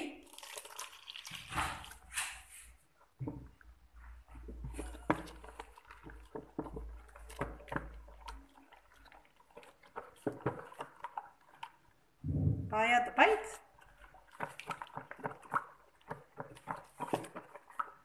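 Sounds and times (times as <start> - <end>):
spatula stirring batter in bowl: 0.3 - 12.2, 13.4 - 18.0.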